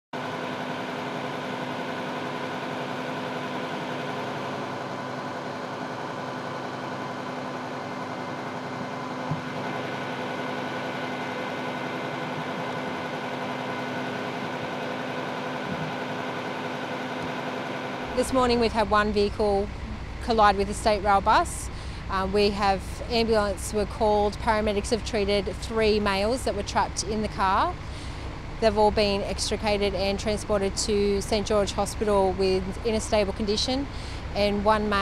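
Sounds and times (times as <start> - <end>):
vehicle engines idling: 0.2 - 35.0.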